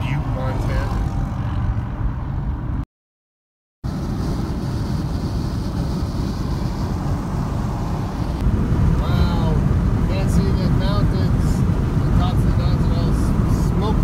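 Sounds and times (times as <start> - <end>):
car cabin road rumble: 0.0 - 2.8, 3.8 - 14.0.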